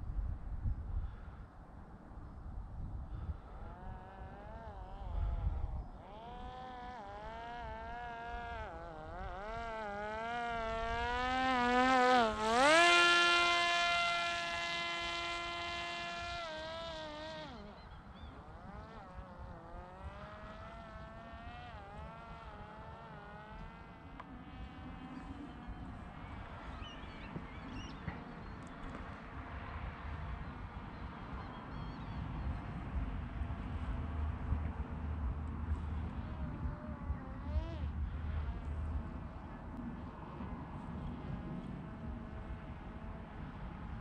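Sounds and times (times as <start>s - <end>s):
drone propeller motor buzzing: 3.1s - 44.0s.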